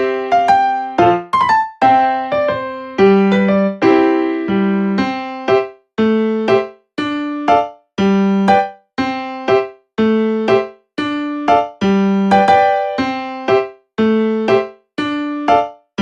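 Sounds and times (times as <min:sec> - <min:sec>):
bright piano chords: 0:00.0 - 0:16.0.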